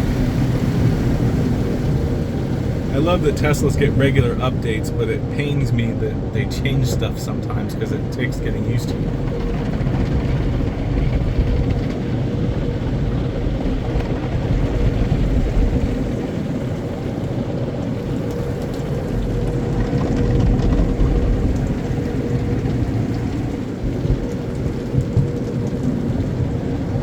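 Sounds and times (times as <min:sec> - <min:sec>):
mid-pitched hum: 0:00.0 - 0:25.2
car wash machinery rumbling: 0:00.0 - 0:27.0.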